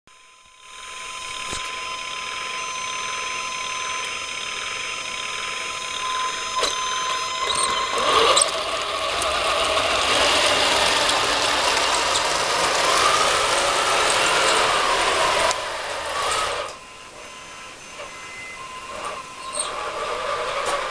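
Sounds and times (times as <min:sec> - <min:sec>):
electronic engine hum: 0:00.2 - 0:20.9
gear motors whining: 0:00.2 - 0:20.9.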